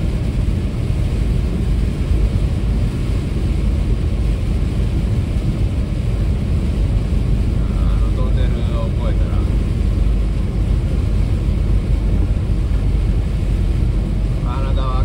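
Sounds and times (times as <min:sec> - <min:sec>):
rain on car: 0:00.0 - 0:15.0
tyres rumbling on wet road: 0:00.0 - 0:15.0
wind noise: 0:00.0 - 0:15.0.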